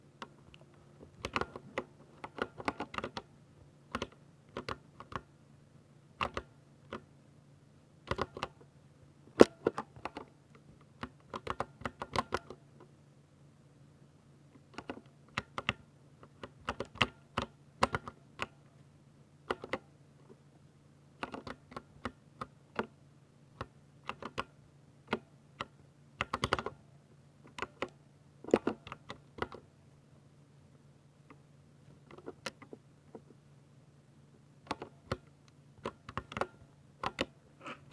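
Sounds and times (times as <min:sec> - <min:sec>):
faint low hum: 0:00.0 - 0:37.9.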